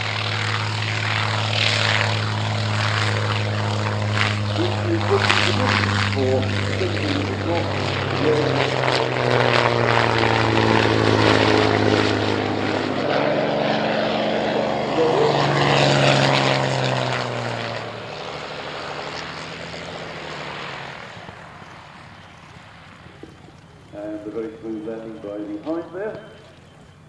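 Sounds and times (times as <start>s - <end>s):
propeller plane engine drone: 0.0s - 27.0s.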